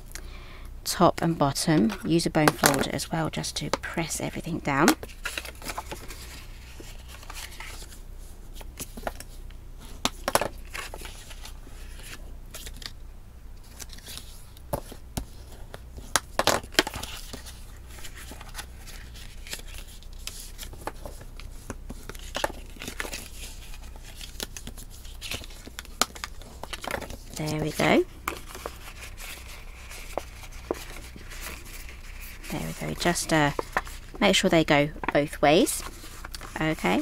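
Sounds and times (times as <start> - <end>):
cardstock rustling and crackling: 1.8 - 13.0, 13.6 - 37.0.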